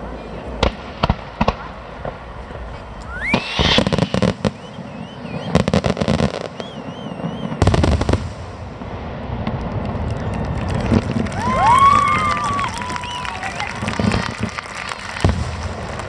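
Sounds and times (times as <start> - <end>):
fireworks banging and crackling: 0.0 - 16.0
fireworks whistling: 0.1 - 16.0.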